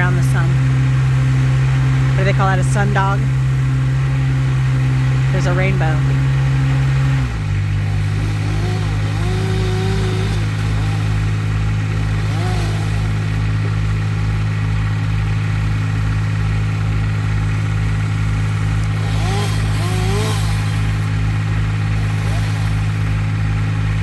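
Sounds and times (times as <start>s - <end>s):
faint rising and falling whines: 0.0s - 24.0s
heavy equipment engine running: 0.0s - 24.0s.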